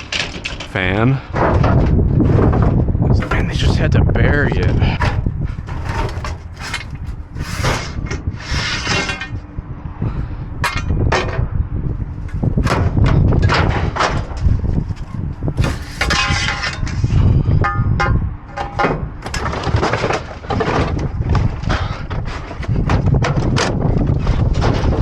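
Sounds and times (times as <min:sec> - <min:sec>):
scrap metal clanking in dumpster: 0:00.0 - 0:09.4, 0:10.1 - 0:25.0.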